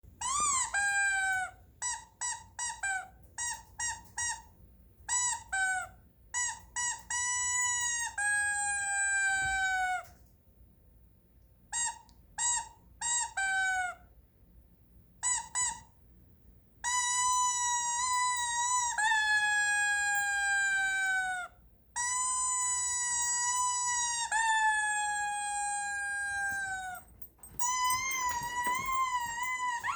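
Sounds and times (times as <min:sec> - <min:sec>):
squeaky toy squeaking: 0:00.2 - 0:10.1, 0:11.7 - 0:14.1, 0:15.2 - 0:16.0, 0:16.8 - 0:29.9.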